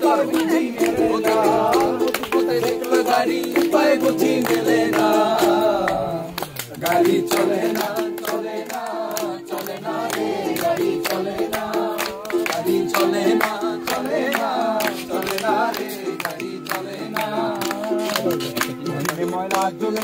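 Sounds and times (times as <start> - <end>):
group singing: 0.0 - 20.0.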